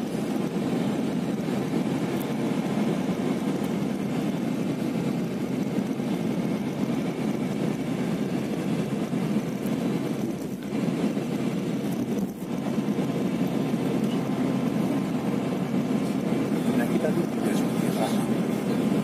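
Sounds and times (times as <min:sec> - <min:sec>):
road and engine noise inside a coach: 0:00.0 - 0:19.0.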